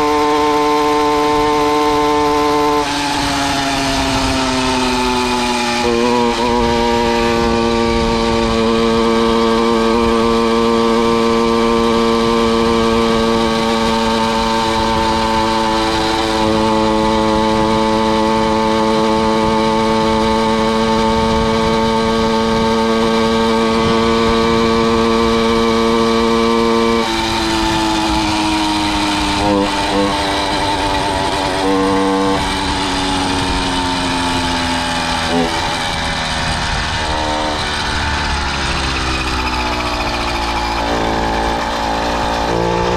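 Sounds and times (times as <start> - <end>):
two-stroke engine revving: 0.0 - 42.9.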